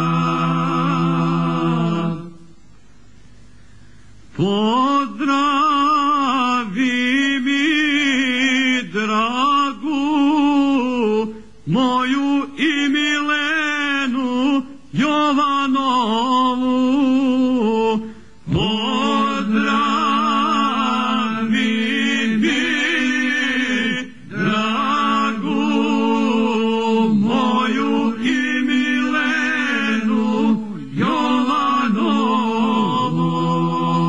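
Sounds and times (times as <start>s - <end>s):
men singing a cappella: 0.0s - 2.5s, 4.4s - 34.0s.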